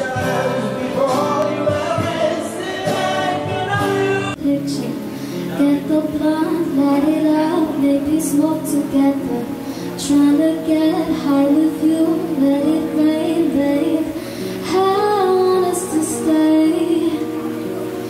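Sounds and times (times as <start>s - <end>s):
woman singing: 0.0s - 17.8s
electric guitar: 0.0s - 18.0s.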